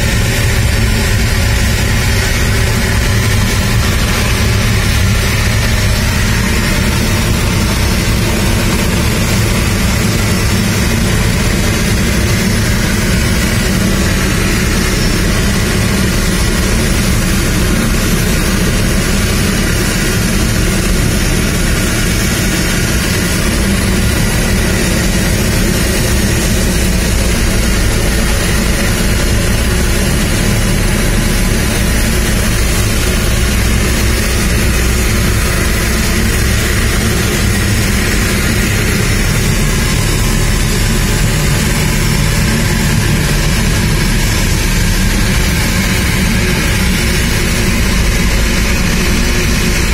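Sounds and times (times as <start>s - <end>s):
tug engine running under load: 0.0s - 49.9s.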